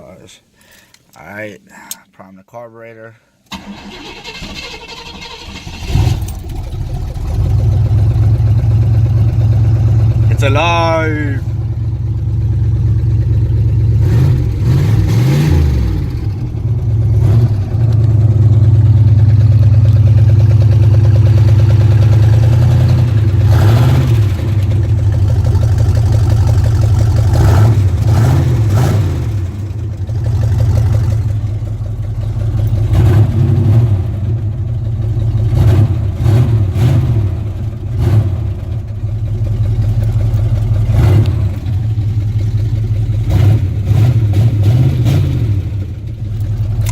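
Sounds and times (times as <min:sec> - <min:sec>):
car engine revving: 0:03.7 - 0:46.9.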